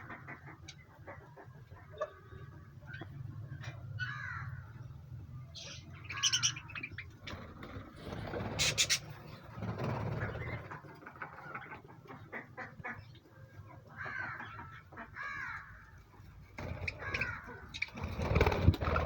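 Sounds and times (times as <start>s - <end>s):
cage birds chirping: 0.0s - 19.0s.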